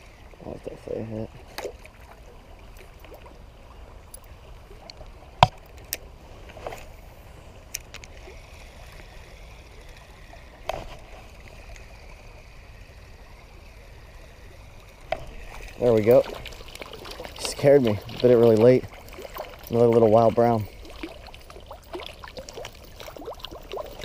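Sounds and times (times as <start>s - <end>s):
creek water flowing: 0.0s - 24.0s.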